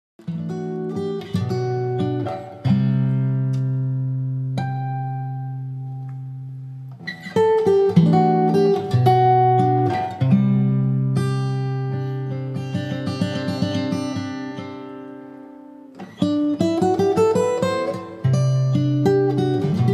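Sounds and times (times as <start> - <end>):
acoustic guitar ballad: 0.2 - 19.9.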